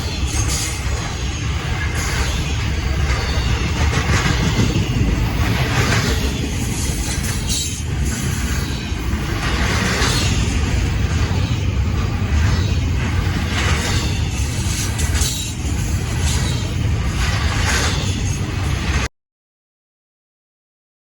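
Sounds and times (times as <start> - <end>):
freight train rumbling on rails: 0.0 - 19.1.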